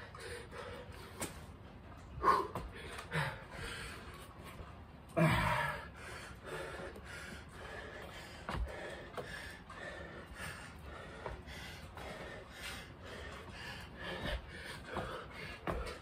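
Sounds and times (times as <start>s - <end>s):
man breathing hard: 0.0s - 1.3s, 2.2s - 4.4s, 5.2s - 16.0s.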